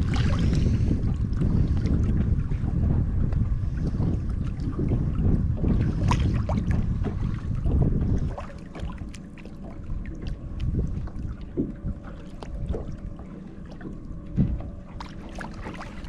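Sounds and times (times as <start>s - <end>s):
water moving around boat: 0.0s - 16.0s
wind on microphone: 0.0s - 16.0s.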